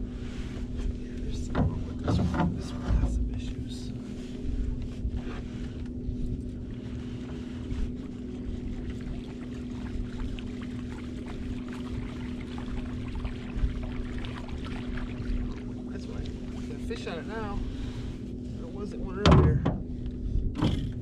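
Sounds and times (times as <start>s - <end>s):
water lapping against boat hull: 0.0s - 21.0s
electric trolling motor humming: 1.1s - 19.2s.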